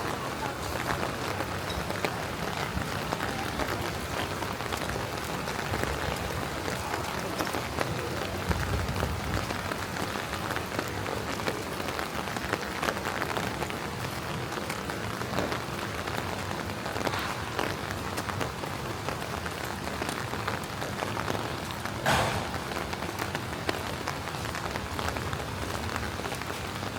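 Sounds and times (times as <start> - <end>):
raindrops ticking: 0.0 - 26.9
steady rain on streets: 0.0 - 26.9.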